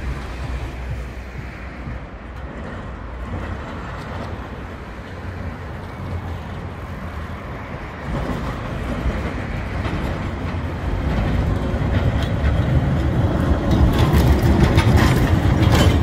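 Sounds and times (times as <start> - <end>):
tram rumbling along rails: 0.0 - 16.0.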